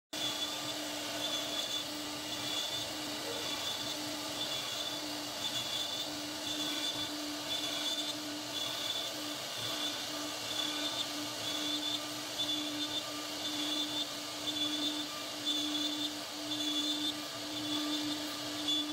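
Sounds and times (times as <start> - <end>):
cnc router cutting wood: 0.2 - 18.9
high machine whine: 0.2 - 18.9.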